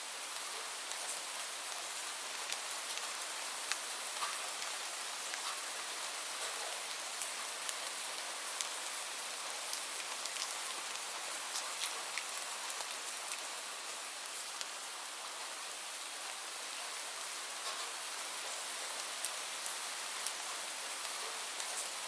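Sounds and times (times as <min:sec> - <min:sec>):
rain drops pattering on hard surface: 0:00.1 - 0:22.0.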